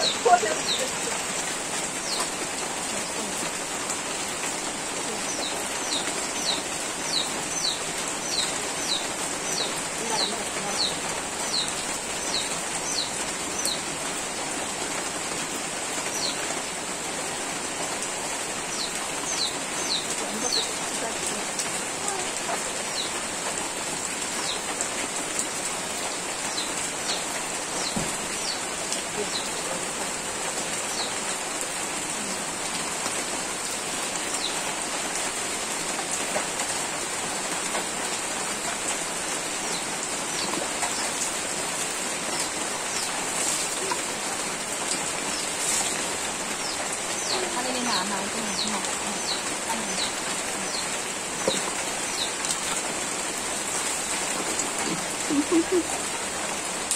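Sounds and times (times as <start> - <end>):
rain on ground and leaves: 0.0 - 56.9.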